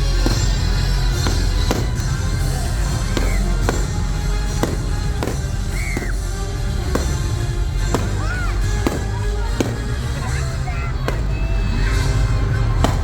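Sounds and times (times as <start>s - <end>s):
fireworks bangs: 0.0s - 13.0s
loud show music: 0.0s - 13.0s.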